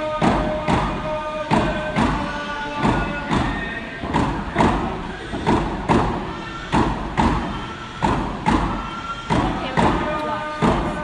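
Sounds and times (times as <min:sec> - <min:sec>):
drums beating heavily: 0:00.0 - 0:11.0
voices singing held notes: 0:00.0 - 0:11.0.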